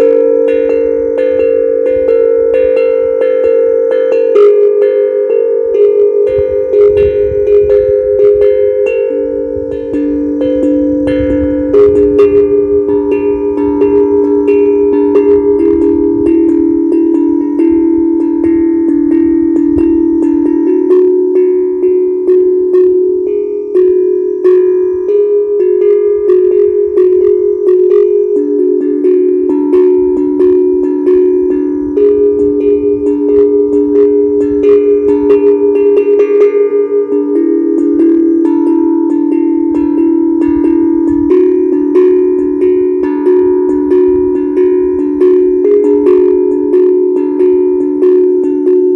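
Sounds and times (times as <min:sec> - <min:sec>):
steel tongue drum notes: 0:00.0 - 0:48.9.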